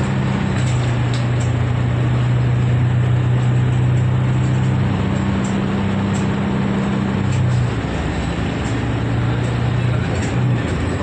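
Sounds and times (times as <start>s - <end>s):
bus drivetrain drone: 0.0s - 11.0s
road noise: 0.0s - 11.0s.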